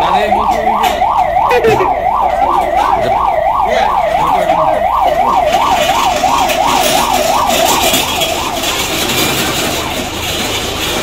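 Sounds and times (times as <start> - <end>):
ambulance siren wailing: 0.0 - 10.1.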